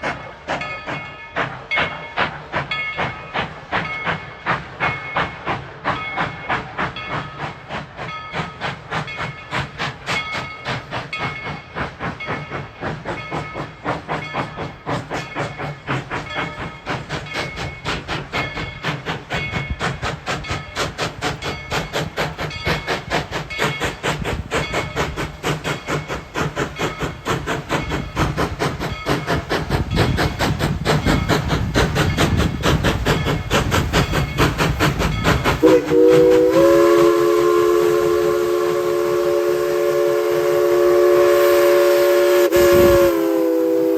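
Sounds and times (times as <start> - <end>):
steam hiss: 0.0 - 43.9
steam locomotive exhaust chuffs: 0.0 - 43.9.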